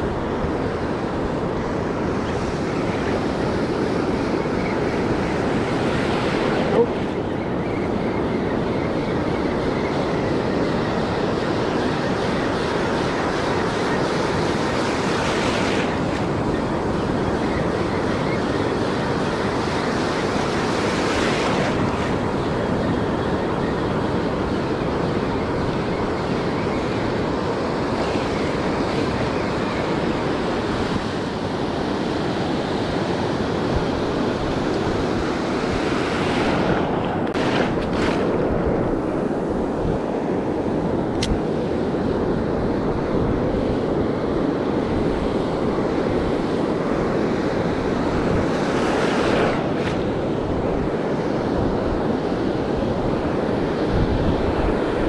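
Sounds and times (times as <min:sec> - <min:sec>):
ocean surf washing ashore: 0:00.0 - 0:55.0
wind rumbling on microphone: 0:00.0 - 0:55.0.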